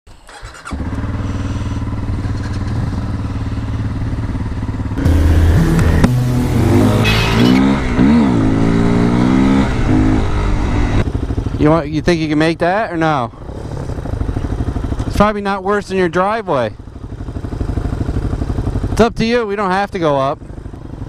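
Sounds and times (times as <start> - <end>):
motorcycle engine idling and revving: 0.1 - 21.0.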